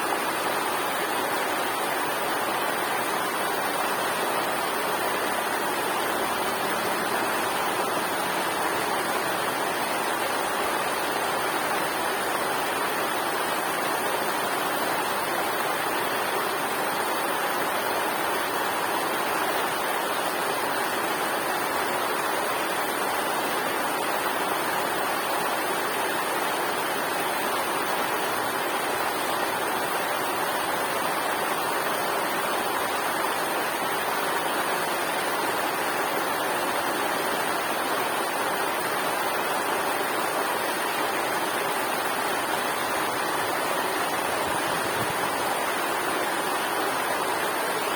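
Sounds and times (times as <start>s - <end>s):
river water rushing over rocks: 0.0s - 47.9s.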